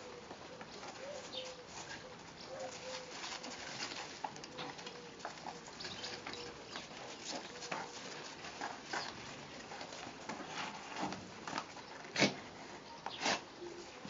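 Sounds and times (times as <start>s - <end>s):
paws shuffling on gravel: 0.6s - 12.9s.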